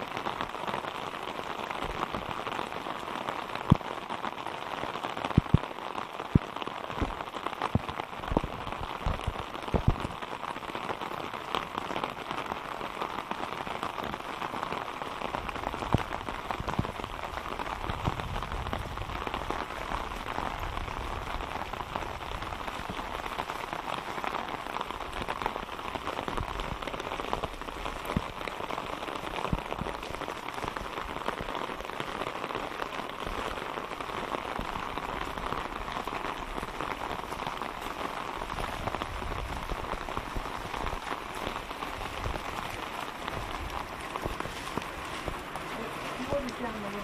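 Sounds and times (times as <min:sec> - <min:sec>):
rain falling into puddles: 0:00.0 - 0:47.0.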